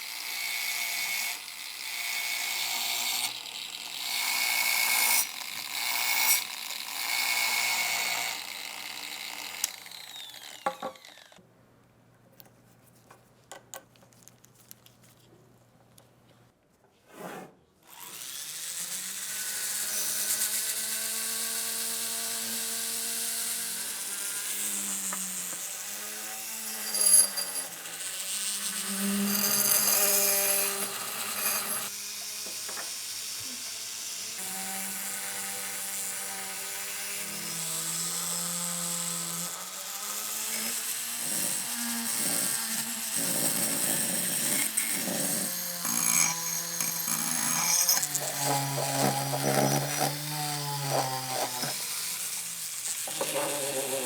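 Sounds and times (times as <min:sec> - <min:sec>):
handheld power tool running: 0:00.0 - 0:11.4, 0:17.9 - 0:54.0.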